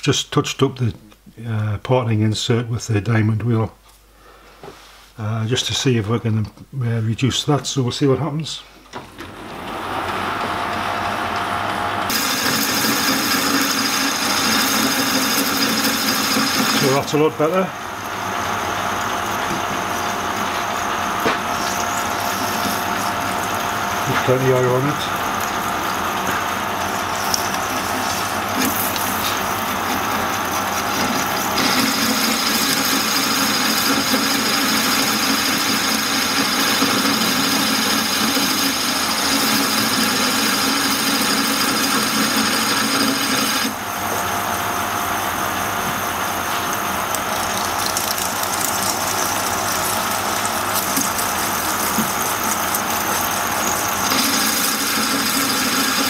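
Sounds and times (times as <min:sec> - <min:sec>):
metal lathe cutting with whine: 0:09.4 - 0:56.0.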